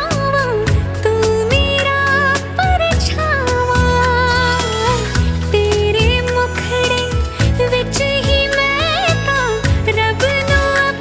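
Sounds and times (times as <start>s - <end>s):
instrumental accompaniment: 0.6s - 11.0s.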